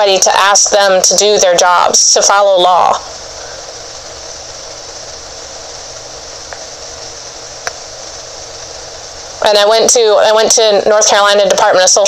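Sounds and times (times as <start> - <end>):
phone line hiss: 0.0 - 12.0.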